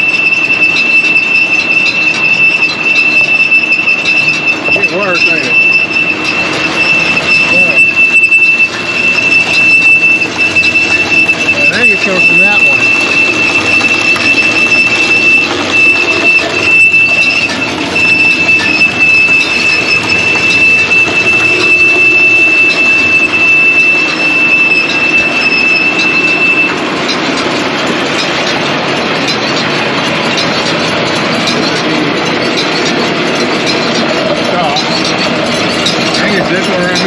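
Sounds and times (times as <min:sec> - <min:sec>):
high-pitched squeal: 0:00.0 - 0:37.0
round baler running: 0:00.0 - 0:37.0.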